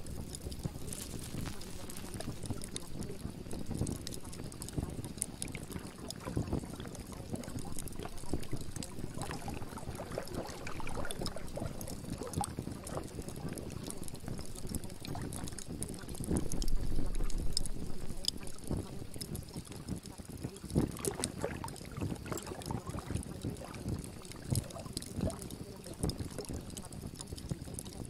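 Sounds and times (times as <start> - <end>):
water splashing and lapping: 0.0 - 28.0.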